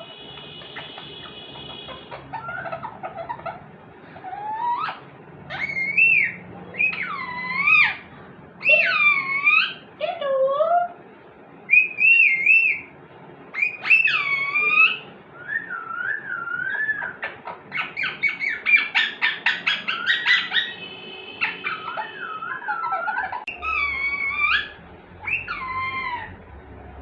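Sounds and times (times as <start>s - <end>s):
parrot whistling calls: 0.6s - 9.8s, 11.7s - 12.9s, 13.5s - 20.8s, 21.4s - 26.4s.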